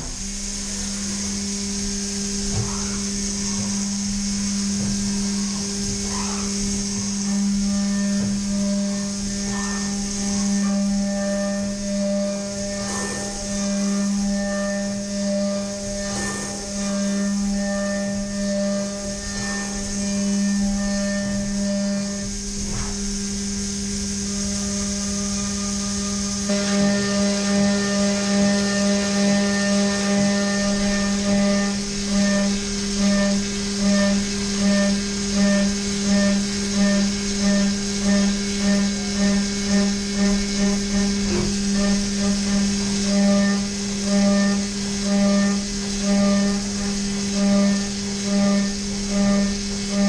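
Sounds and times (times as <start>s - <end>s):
milling machine spindle hum: 0.0s - 50.0s
pulsing cutting tone: 0.3s - 50.0s.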